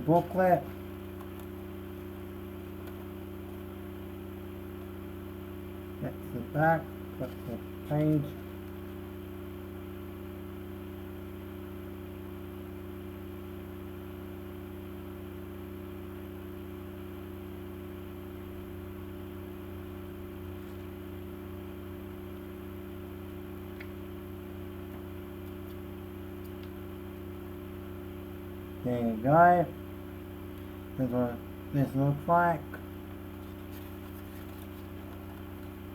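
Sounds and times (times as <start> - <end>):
low electrical hum: 0.0 - 35.9.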